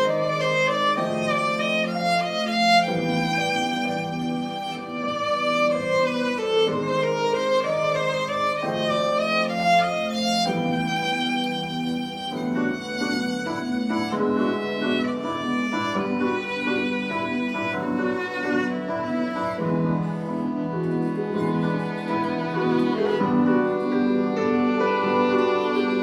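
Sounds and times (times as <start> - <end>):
bowed string melody: 0.0 - 26.0.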